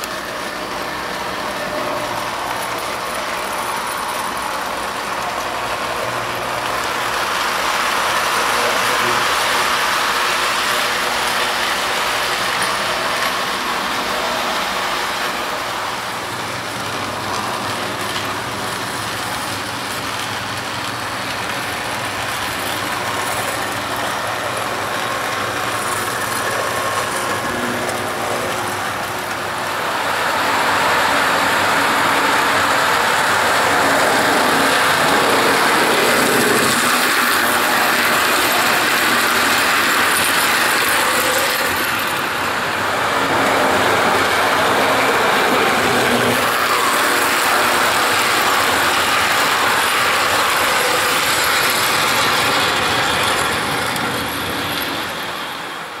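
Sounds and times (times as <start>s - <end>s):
toy train wheel rattle: 0.0s - 29.4s, 30.3s - 42.6s, 43.7s - 55.4s
toy train mechanical whir: 0.0s - 56.0s.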